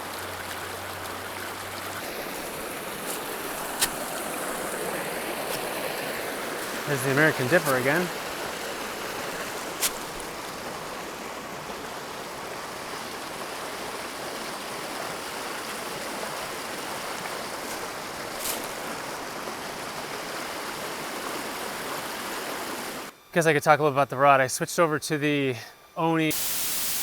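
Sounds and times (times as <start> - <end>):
creek water flowing: 0.0 - 23.1.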